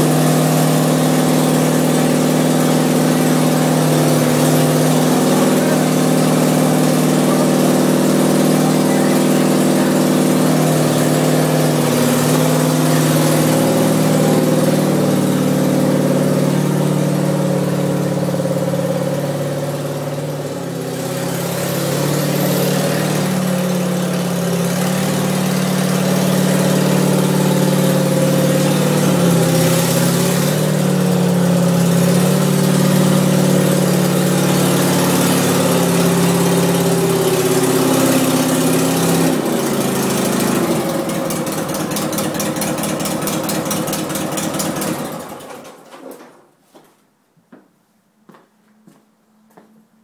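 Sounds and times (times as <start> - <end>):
garden tractor engine running: 0.0 - 46.2.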